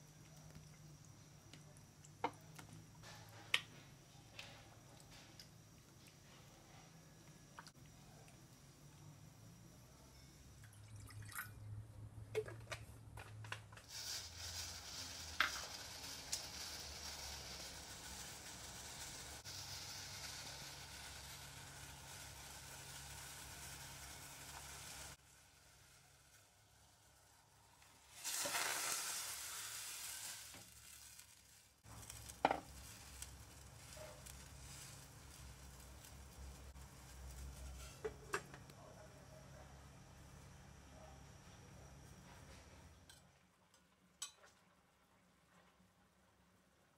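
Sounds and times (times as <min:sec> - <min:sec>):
heating water hissing: 0:00.0 - 0:11.1, 0:13.7 - 0:43.1.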